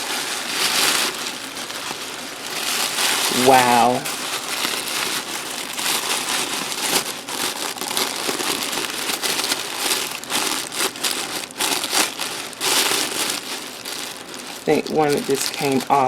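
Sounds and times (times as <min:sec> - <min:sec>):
tissue paper rustling and crinkling: 0:00.0 - 0:16.0.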